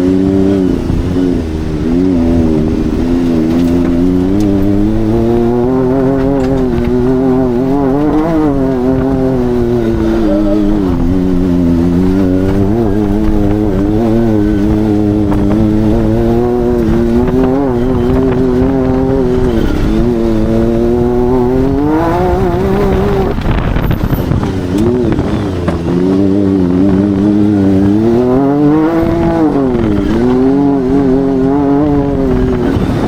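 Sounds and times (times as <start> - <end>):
engine running hard: 0.0 - 33.0.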